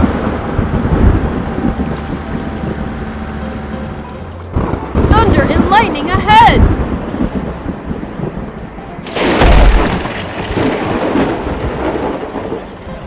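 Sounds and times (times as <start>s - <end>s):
thunderclap with deep rumble: 0.0s - 2.9s, 4.5s - 13.0s.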